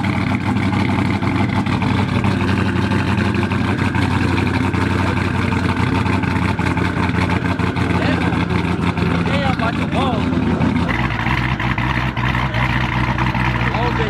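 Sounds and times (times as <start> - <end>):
car engine idling lopey: 0.0 - 14.0.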